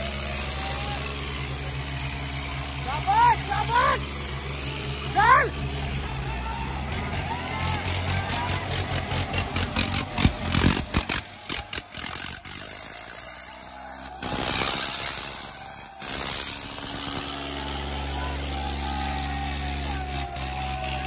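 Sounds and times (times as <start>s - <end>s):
diesel tractor engines under load: 0.0s - 21.0s.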